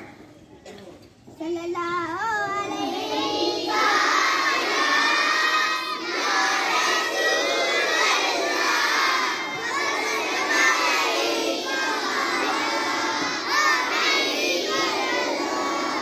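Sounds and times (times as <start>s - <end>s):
children chanting in unison: 2.6s - 16.0s.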